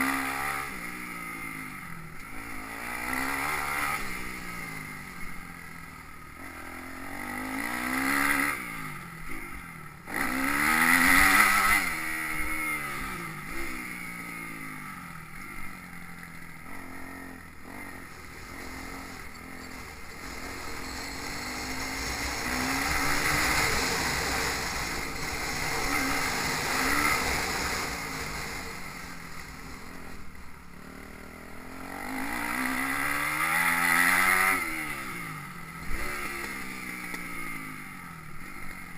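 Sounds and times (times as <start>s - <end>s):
motocross bikes revving: 1.7s - 38.9s.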